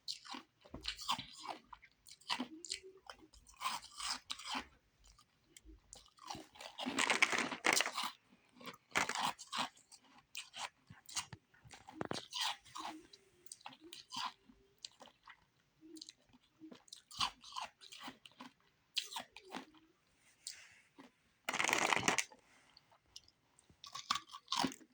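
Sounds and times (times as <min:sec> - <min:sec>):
ice being chewed: 0:00.1 - 0:22.4, 0:23.1 - 0:24.9.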